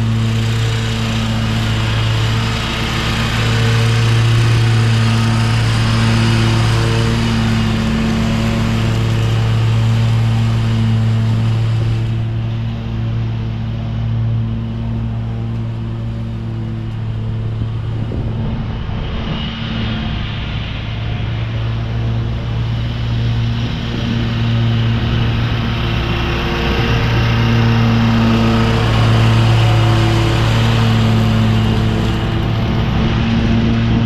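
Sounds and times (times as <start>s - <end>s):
lawn mower engine running: 0.0s - 34.0s
mower blades mulching leaves: 0.0s - 34.0s.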